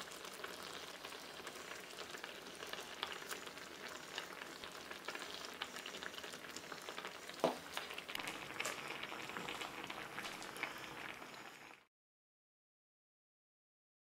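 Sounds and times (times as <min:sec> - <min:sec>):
sauce sizzling in a frying pan: 0:00.0 - 0:11.9.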